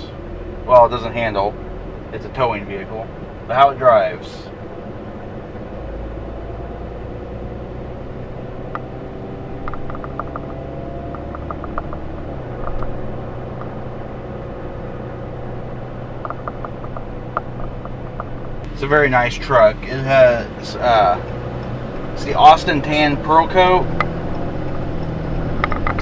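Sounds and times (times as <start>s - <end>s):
diesel truck engine drone: 0.0s - 26.0s
road noise: 0.0s - 26.0s.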